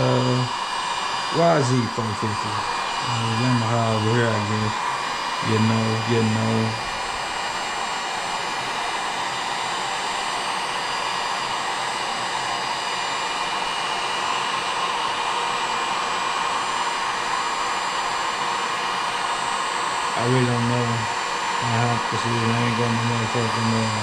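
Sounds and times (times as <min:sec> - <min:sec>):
heat gun blowing: 0:00.0 - 0:24.0.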